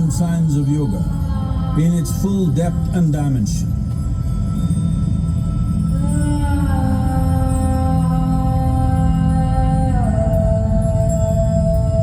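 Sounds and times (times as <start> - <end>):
low droning soundtrack music: 0.0 - 12.0.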